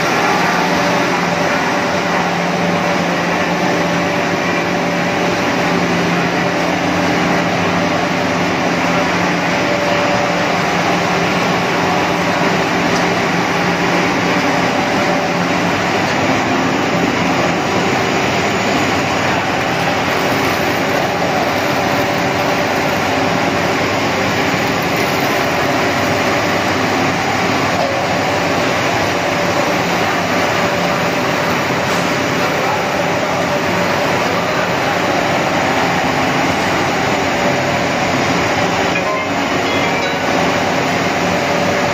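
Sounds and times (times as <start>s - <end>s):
machinery whirring and humming: 0.0s - 41.9s.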